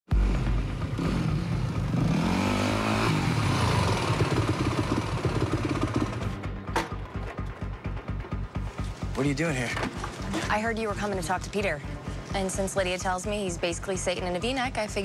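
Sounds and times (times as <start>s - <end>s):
dirt bike engine: 0.1s - 12.7s.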